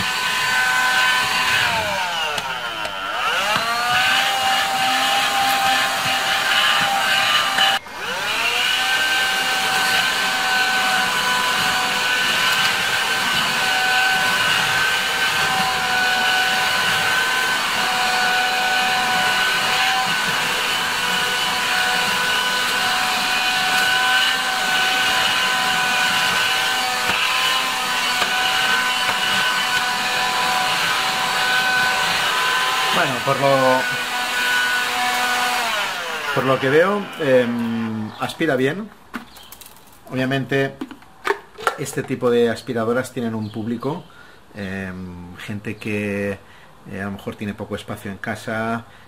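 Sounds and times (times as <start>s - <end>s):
handheld vacuum whining: 0.0s - 39.9s.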